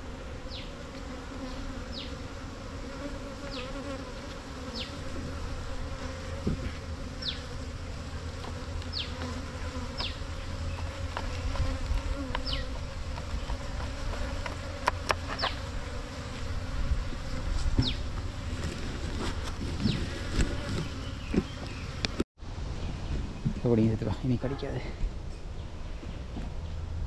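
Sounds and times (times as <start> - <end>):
bees buzzing: 0.0 - 22.2.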